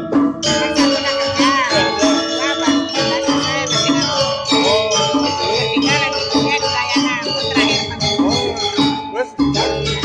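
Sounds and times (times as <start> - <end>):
gamelan metallophones and gongs: 0.0 - 10.0.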